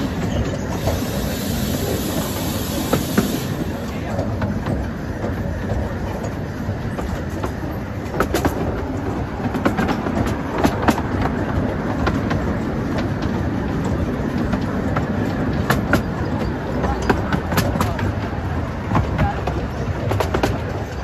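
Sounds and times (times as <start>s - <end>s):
train wheels rumbling on rail: 0.0s - 21.0s
wheels clicking over rail joints: 0.0s - 21.0s.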